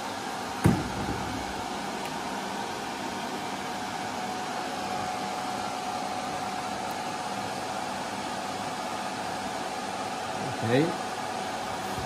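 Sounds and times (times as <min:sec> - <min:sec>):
cooling fans rushing: 0:00.0 - 0:12.0.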